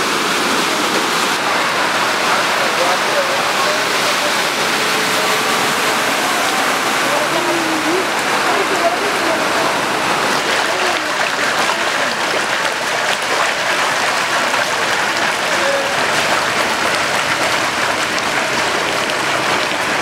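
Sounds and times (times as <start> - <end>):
floodwater gushing from manhole: 0.0 - 20.0.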